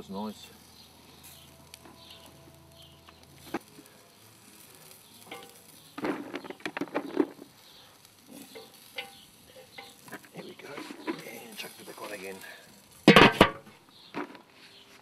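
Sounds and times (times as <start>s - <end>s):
meat sizzling over charcoal: 0.0s - 15.0s.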